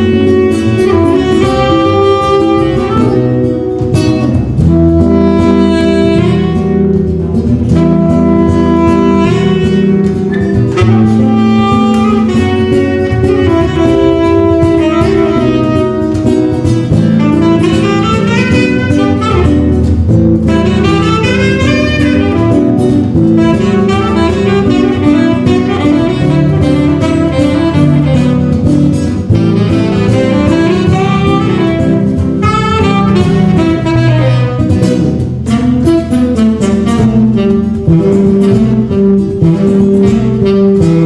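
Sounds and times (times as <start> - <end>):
instrumental trio playing live: 0.0 - 41.0.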